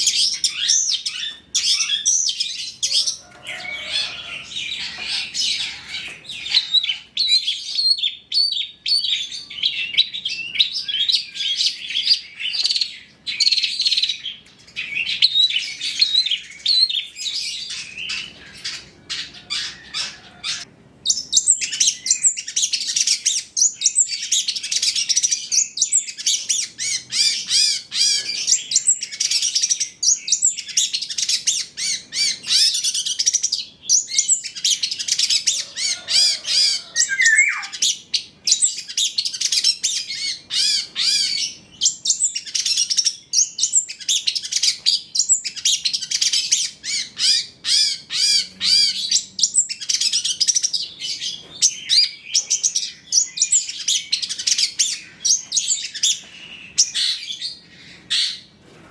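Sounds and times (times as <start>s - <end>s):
bird singing high chirps and trills: 0.0s - 58.6s.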